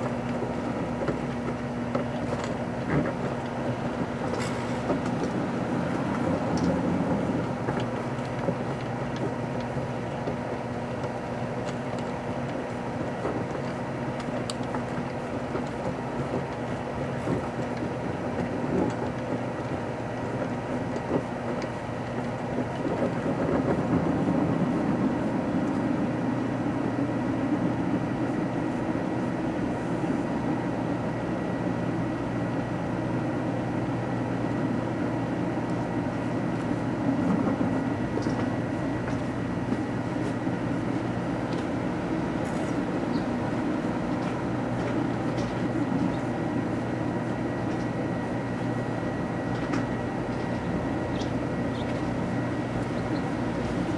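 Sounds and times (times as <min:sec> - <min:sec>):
microwave oven humming: 0:00.0 - 0:53.9.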